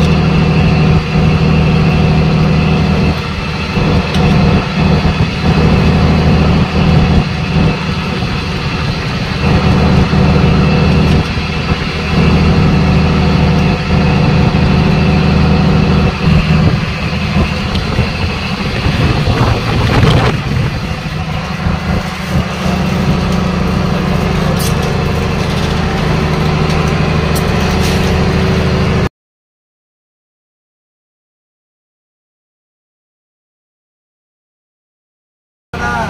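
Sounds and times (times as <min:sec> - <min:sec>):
boat engine humming: 0:00.0 - 0:29.1, 0:35.8 - 0:36.0
rush of noise: 0:00.0 - 0:29.1.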